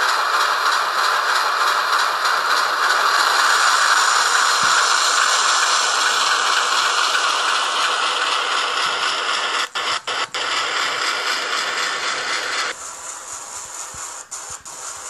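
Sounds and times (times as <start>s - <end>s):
thin hissy diesel engine sound: 0.0s - 15.0s.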